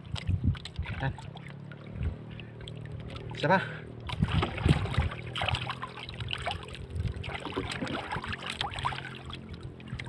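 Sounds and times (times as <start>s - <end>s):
water lapping against canoe hull: 0.0s - 10.0s.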